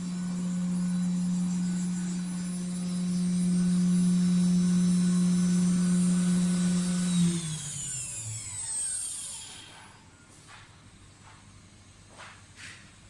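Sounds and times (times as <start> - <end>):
cnc router spindle whining: 0.0 - 10.5.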